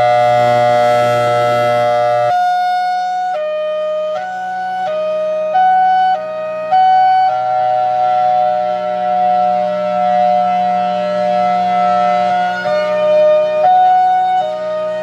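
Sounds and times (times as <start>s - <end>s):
warning siren sounding hi-lo: 0.0s - 15.0s.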